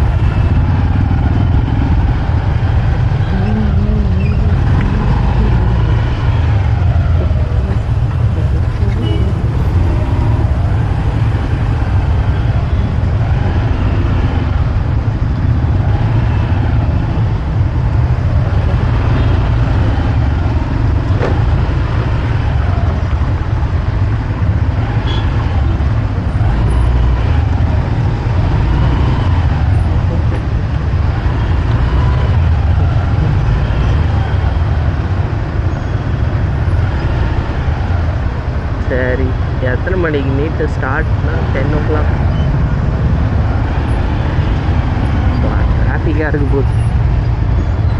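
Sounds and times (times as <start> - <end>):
road traffic rumble: 0.0 - 47.9
vehicle engines rising and falling: 0.0 - 47.9.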